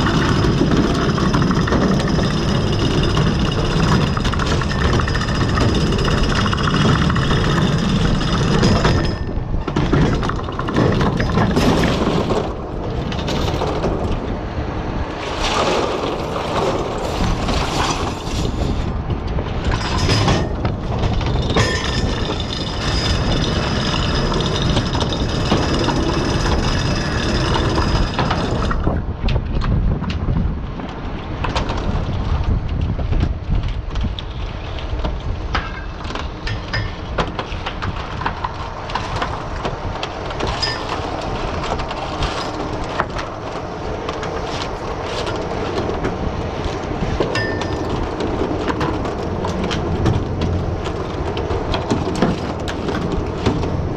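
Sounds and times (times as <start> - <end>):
boat engine running: 0.0 - 29.2, 38.0 - 53.9
wind and water rumble: 0.0 - 53.9.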